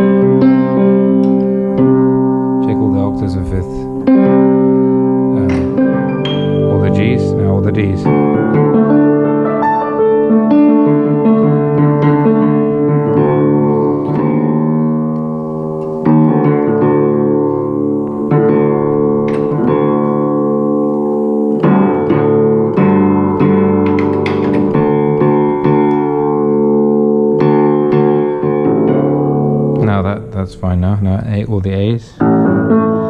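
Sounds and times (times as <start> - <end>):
upright piano octaves ringing: 0.0 - 33.0.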